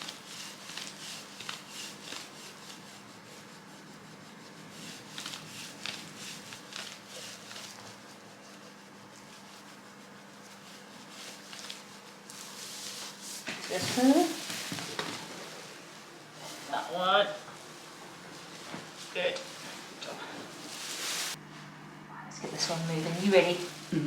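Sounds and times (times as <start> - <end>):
hands rubbing over skin: 0.0 - 16.8, 17.6 - 21.4.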